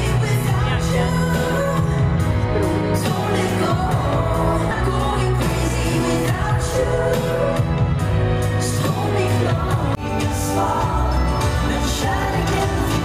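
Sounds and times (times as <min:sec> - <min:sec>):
live pop music with singer: 0:00.0 - 0:13.0.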